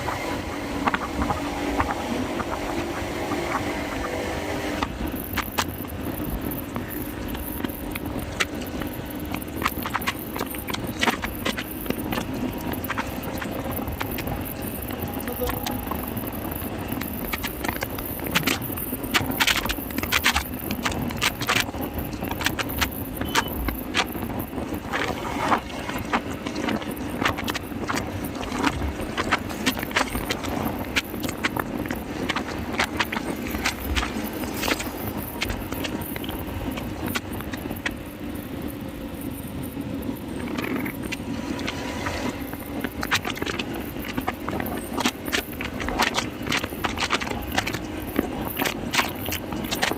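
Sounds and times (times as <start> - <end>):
motorcycle riding rumble: 0.0 - 49.9
wind noise: 0.0 - 49.9
sharp clicks and rattles: 4.8 - 49.9.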